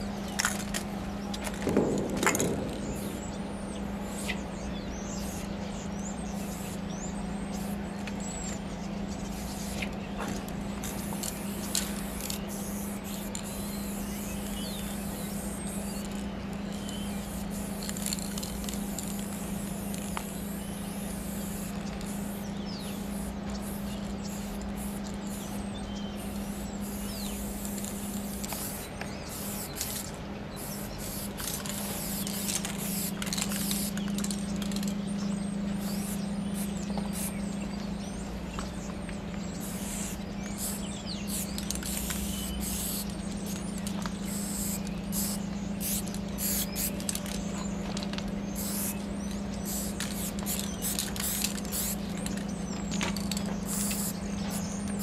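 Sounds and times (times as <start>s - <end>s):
steady low hum: 0.0s - 55.0s
spray paint cans hissing: 0.2s - 4.5s, 6.4s - 6.9s, 7.5s - 8.6s, 9.2s - 35.0s, 35.7s - 37.4s, 39.6s - 55.0s.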